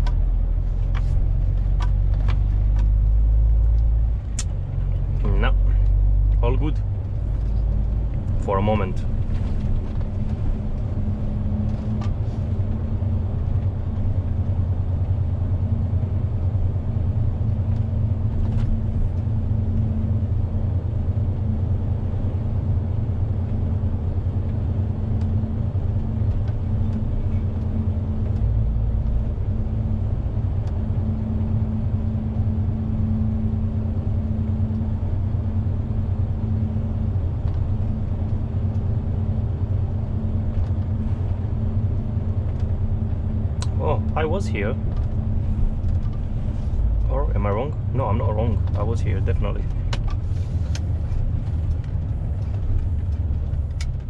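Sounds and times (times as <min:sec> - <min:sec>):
truck diesel engine rumbling: 0:00.0 - 0:54.0.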